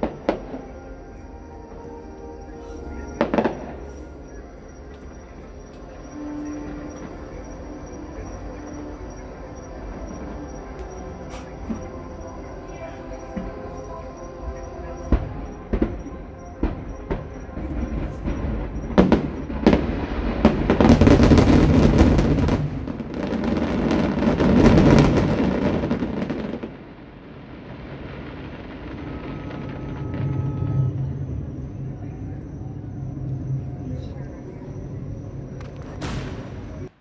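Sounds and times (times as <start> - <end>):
fireworks bangs: 0.0 - 37.0
fireworks crackling and rumbling: 0.0 - 37.0.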